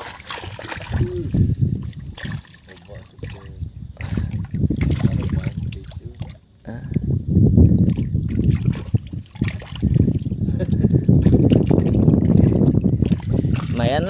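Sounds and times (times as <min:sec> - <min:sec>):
water sloshing and trickling: 0:00.0 - 0:14.0.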